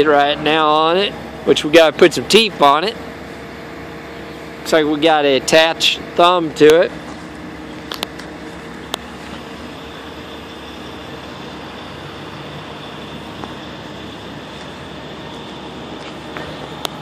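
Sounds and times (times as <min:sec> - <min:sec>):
faint steady tones: 0:00.0 - 0:17.0
steady engine noise: 0:00.0 - 0:17.0.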